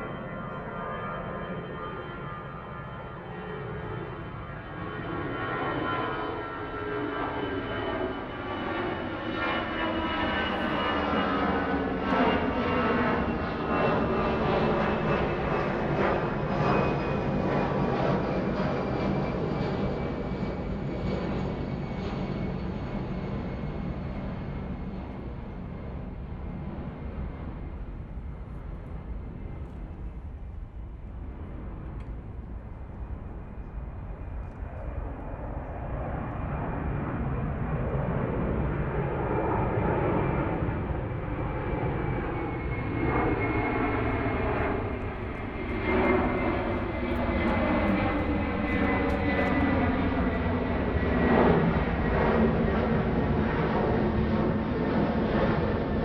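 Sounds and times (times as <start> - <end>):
propeller airplane engine: 0.0 - 56.0.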